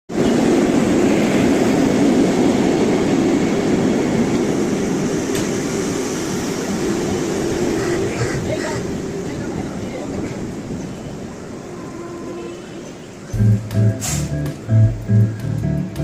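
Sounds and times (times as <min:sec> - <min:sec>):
train rumbling on rails: 0:00.1 - 0:16.0.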